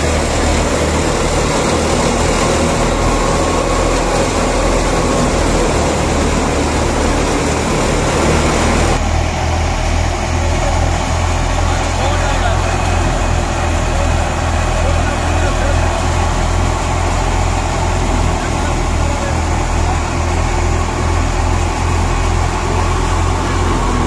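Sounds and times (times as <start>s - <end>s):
thresher mechanical clatter: 0.0s - 24.0s
tractor engine hum: 0.0s - 24.0s.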